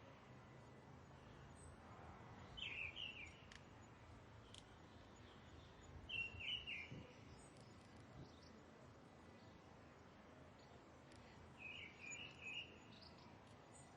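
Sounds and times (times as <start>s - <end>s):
faint outdoor background hiss: 0.0s - 13.9s.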